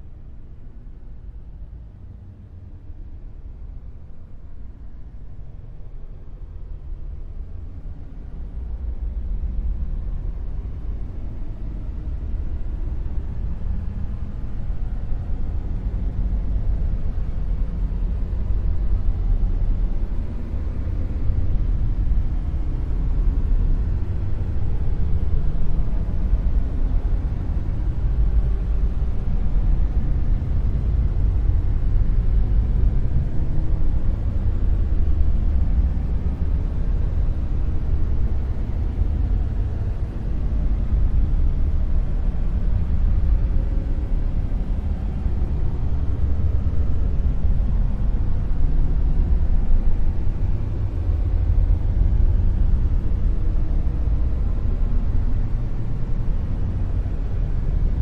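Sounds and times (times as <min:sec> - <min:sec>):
deep rumbling noise: 0:06.3 - 0:58.0.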